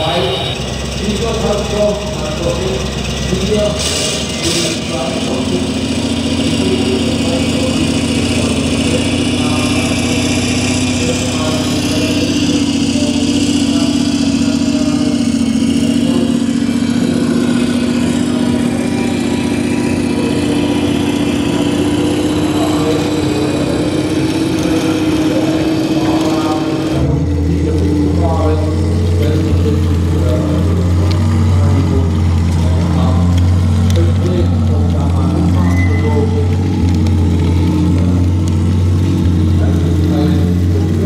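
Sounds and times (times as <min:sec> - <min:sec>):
model tank engine drone: 0:00.0 - 0:41.0.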